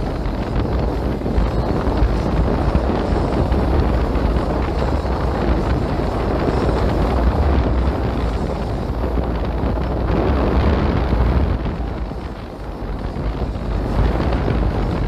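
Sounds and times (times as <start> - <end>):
motorboat running: 0.0 - 15.0
rough water: 0.0 - 15.0
wind buffeting microphone: 0.0 - 15.0.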